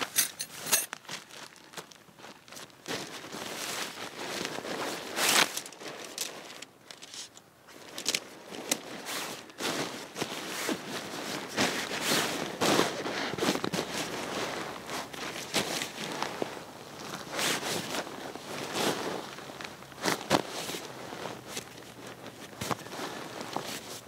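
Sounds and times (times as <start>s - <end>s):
tent fabric rustling and crinkling: 0.0s - 24.0s.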